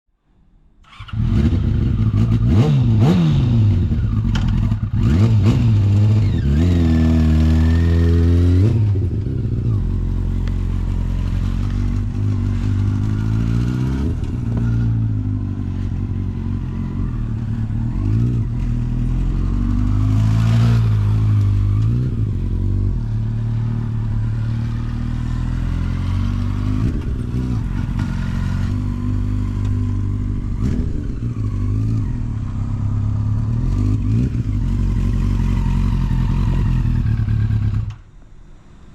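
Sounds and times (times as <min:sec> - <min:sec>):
motorcycle engine revving: 0:00.8 - 0:38.1.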